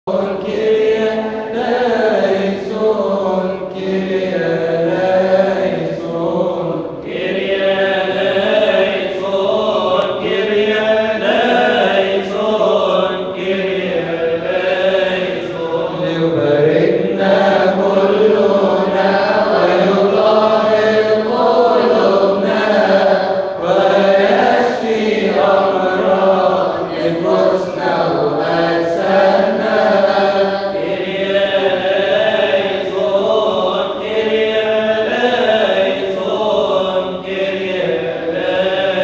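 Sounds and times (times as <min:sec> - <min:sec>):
men chanting a hymn: 0:00.0 - 0:39.0.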